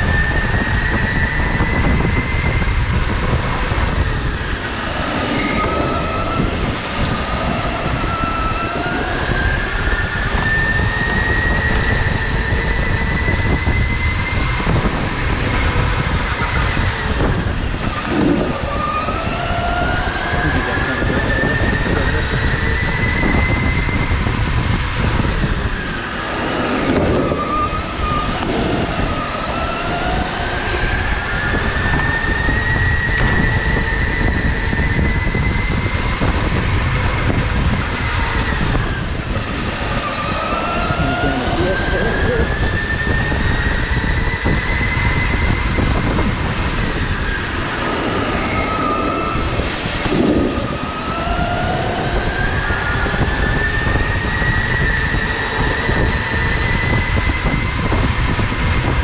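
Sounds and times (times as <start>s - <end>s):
go-kart drive whine: 0.0s - 59.0s
steady low rumble: 0.0s - 59.0s.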